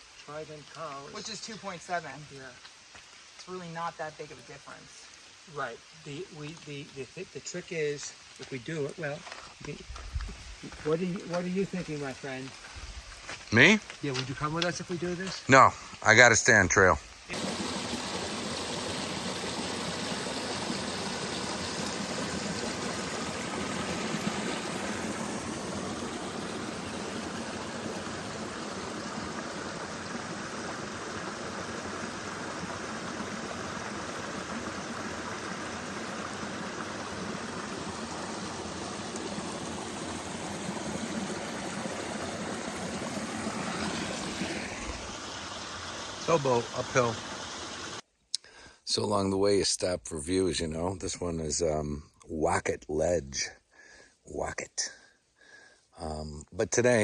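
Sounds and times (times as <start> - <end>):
running water rushing: 0.0 - 48.0.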